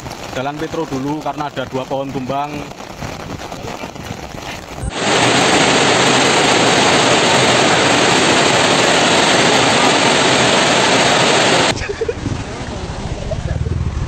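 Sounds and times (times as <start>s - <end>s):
heavy rain driven by strong wind: 0.0s - 14.0s.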